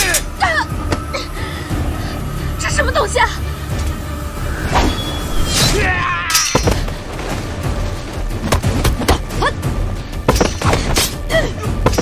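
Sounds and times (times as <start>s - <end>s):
dramatic background music: 0.0s - 12.0s.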